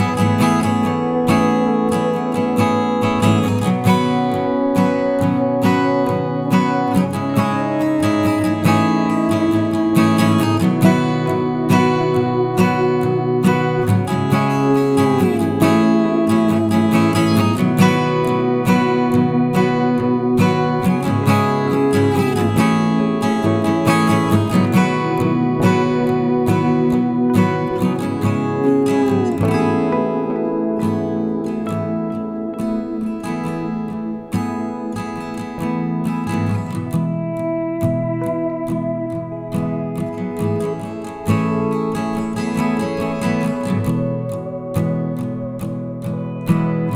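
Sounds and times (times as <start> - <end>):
acoustic guitar music: 0.0 - 46.9.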